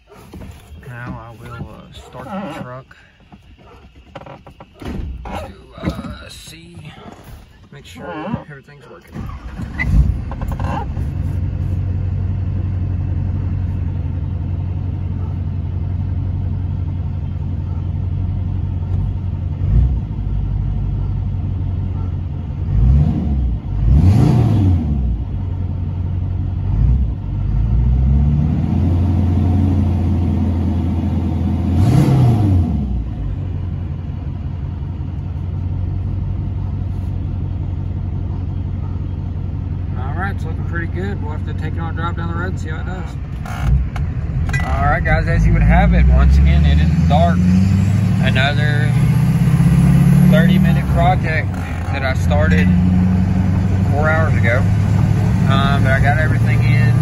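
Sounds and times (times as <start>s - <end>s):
diesel engine starting and revving: 0.0s - 57.0s.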